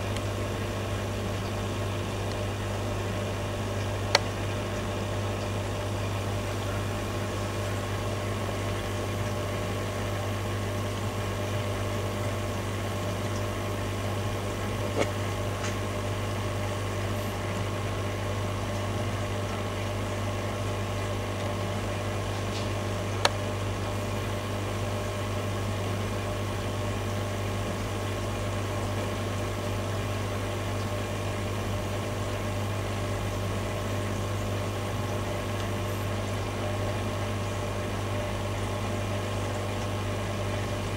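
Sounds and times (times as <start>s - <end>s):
low mechanical hum: 0.0s - 40.9s.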